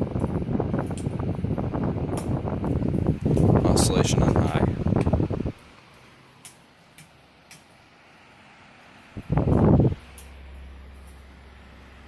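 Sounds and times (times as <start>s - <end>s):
fan clicks: 0.0s - 7.9s, 9.1s - 12.0s
table fan whirring: 0.0s - 12.0s.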